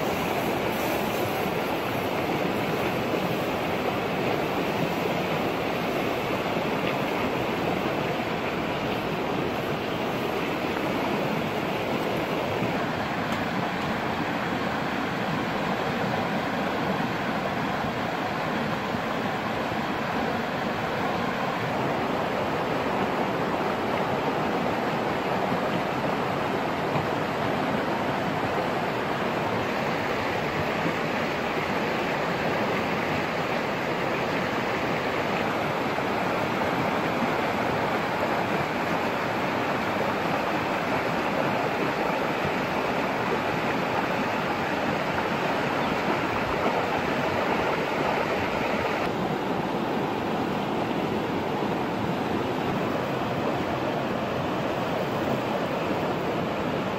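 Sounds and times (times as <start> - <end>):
stream rushing over rocks: 0.0 - 56.9.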